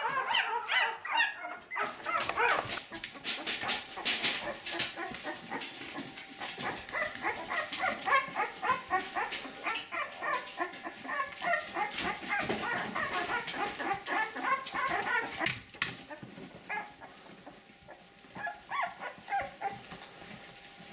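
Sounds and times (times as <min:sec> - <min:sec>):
puppies whimpering and squeaking: 0:00.0 - 0:20.9.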